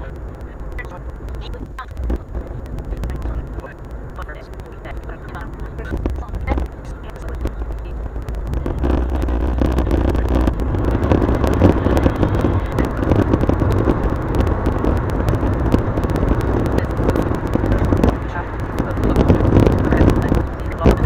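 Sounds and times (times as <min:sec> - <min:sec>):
road and engine noise in car: 0:00.0 - 0:21.0.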